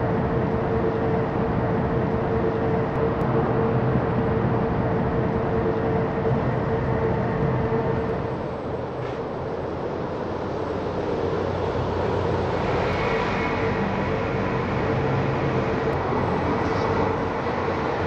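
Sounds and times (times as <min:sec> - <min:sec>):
constant hum: 0:00.0 - 0:18.0
train noise at platform: 0:00.0 - 0:18.0.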